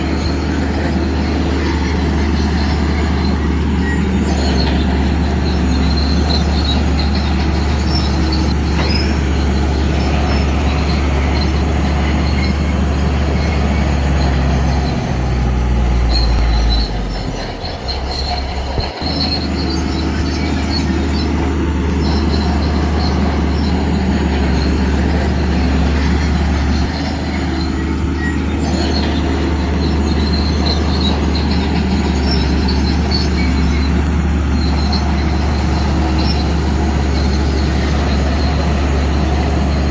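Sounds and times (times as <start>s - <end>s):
bulldozer diesel engine running: 0.0s - 39.9s
metallic squeaks from steel tracks: 0.0s - 39.9s.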